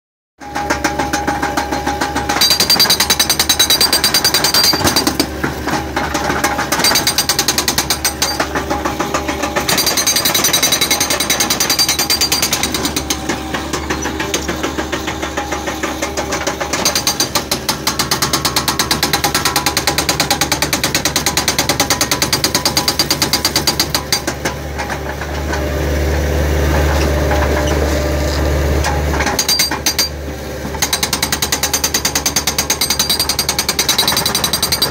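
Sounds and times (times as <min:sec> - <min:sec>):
hydraulic breaker hammering concrete: 0:00.4 - 0:34.9
loader engine running: 0:00.4 - 0:34.9.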